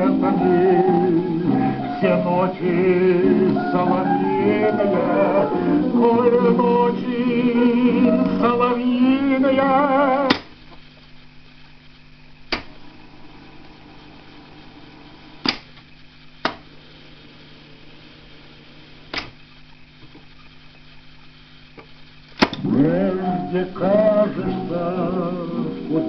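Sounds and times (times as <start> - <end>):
song from tape recorder: 0.0 - 16.2, 20.8 - 26.0
tape recorder hum: 0.0 - 26.0.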